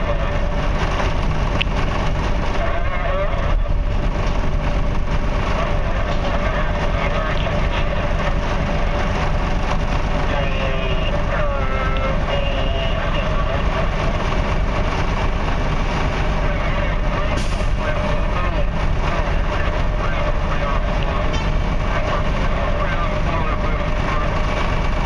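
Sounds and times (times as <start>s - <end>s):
heavy diesel machinery running: 0.0s - 25.0s
wavering whine: 0.0s - 25.0s.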